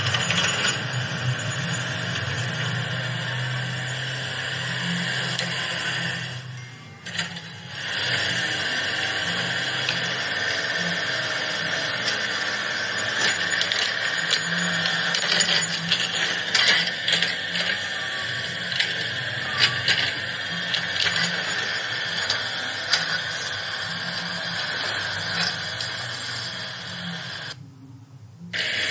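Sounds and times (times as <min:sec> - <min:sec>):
toy motors whirring: 0:00.0 - 0:27.6, 0:28.6 - 0:28.9.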